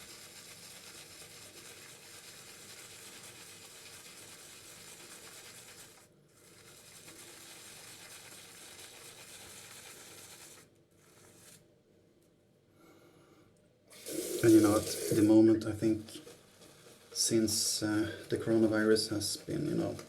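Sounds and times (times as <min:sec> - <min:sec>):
shaving brush swirling lather: 0:00.0 - 0:11.6, 0:13.9 - 0:20.0.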